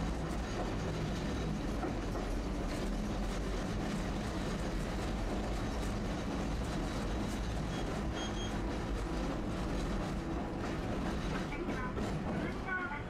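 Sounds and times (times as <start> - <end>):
streetcar rumbling on rails: 0.0 - 13.0.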